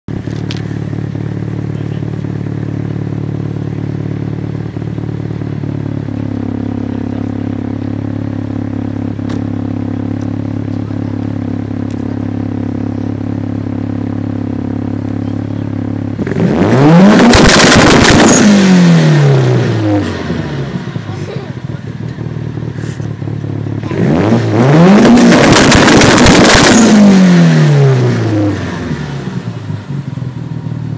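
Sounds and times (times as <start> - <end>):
car engine idling and revving: 0.1 - 30.9.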